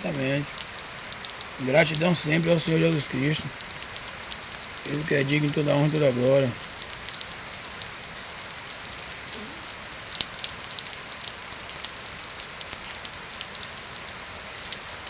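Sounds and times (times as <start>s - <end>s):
heavy rain falling: 0.0s - 15.0s
raindrops tapping a surface: 0.0s - 15.0s.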